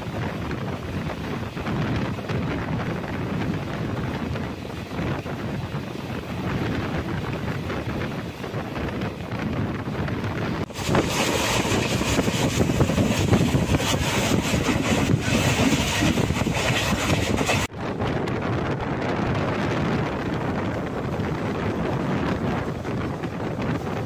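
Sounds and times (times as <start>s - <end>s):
train rushing at speed: 0.0s - 24.0s
wind buffeting microphone: 0.0s - 24.0s.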